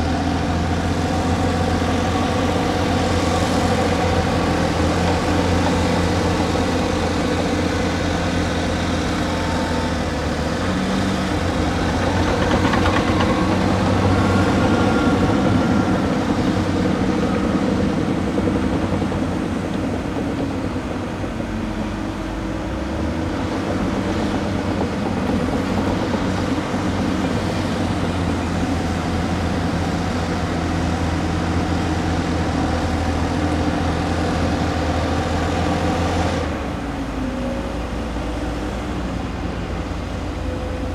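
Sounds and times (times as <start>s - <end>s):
excavator diesel engines running: 0.0s - 40.9s.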